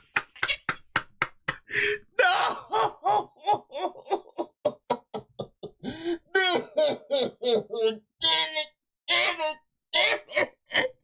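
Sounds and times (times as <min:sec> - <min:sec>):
man laughing hard: 0:00.0 - 0:08.1, 0:09.1 - 0:11.0.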